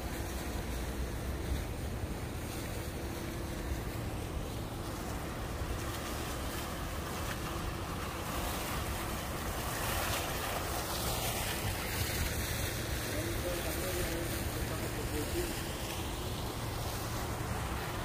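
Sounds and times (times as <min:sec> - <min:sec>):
fountain splashing: 0:00.0 - 0:18.0.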